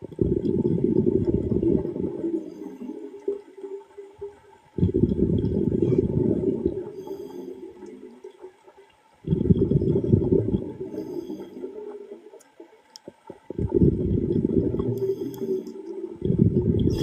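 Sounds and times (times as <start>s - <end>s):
breath bubbling underwater: 0.0s - 3.5s, 4.7s - 8.5s, 9.2s - 12.3s, 13.1s - 17.0s.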